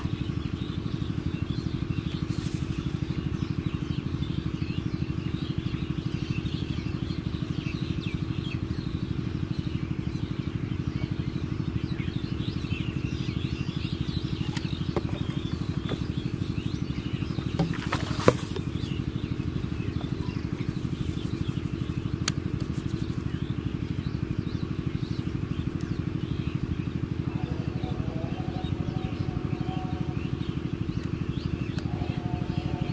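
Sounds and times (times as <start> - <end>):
small engine running: 0.0 - 32.9.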